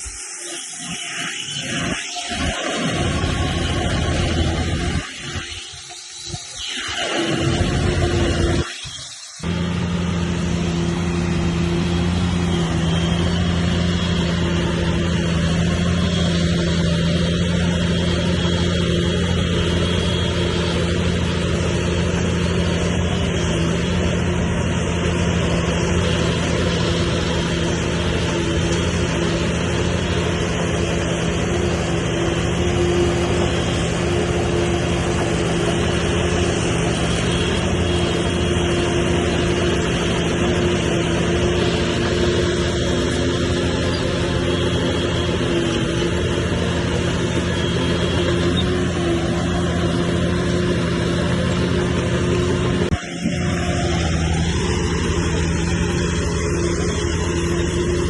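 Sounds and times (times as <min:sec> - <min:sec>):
heavy diesel engine running: 0:01.4 - 0:58.0.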